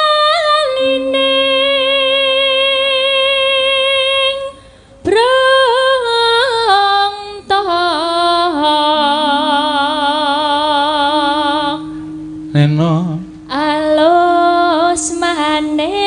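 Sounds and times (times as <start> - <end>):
woman singing melismatic notes: 0.0 - 16.0.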